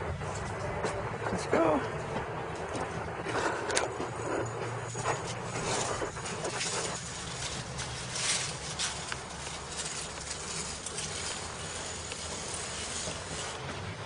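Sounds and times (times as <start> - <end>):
low steady hum: 0.0 - 14.0
footsteps on pavement: 0.1 - 14.0.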